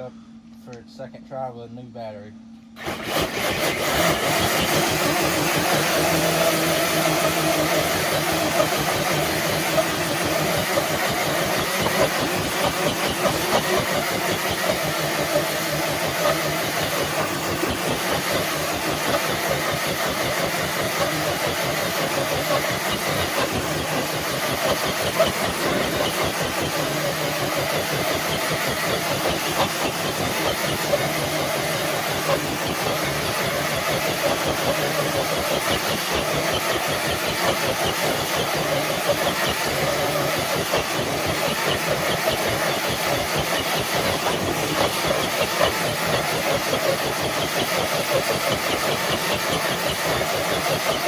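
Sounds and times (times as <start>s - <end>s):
electric motor rattling whine: 2.8s - 51.0s.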